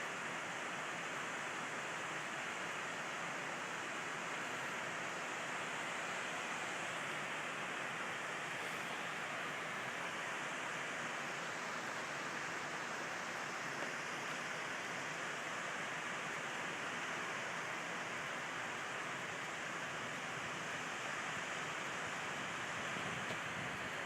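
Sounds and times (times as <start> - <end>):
waterfall rushing: 0.1 - 24.0.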